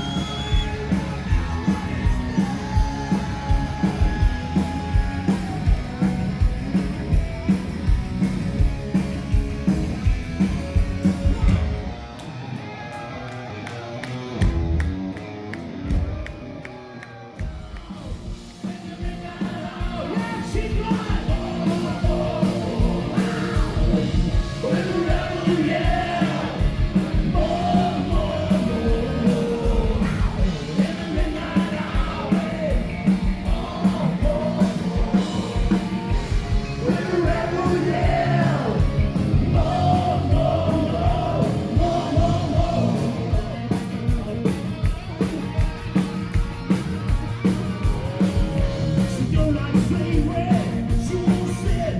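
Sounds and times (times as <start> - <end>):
driving drum beat: 0.0 - 12.2, 15.9 - 16.6, 17.4 - 51.9
loud fast rock music: 0.0 - 51.9.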